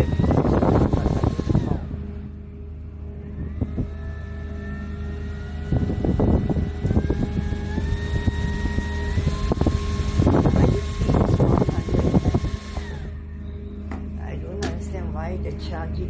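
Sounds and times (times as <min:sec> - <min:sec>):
electric fan motor whine: 0:00.0 - 0:16.0
steady low hum: 0:00.0 - 0:16.0.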